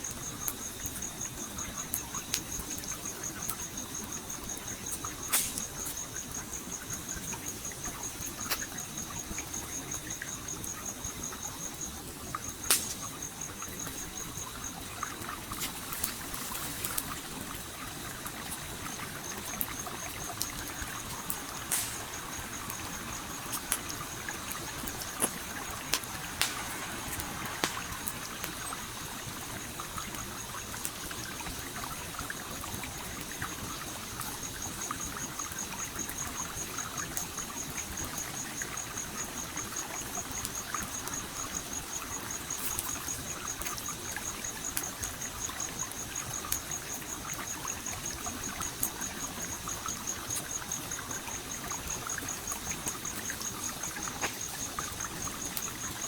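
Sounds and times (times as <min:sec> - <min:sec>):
campfire crackling: 0:00.0 - 0:56.0
flowing stream: 0:00.0 - 0:56.0.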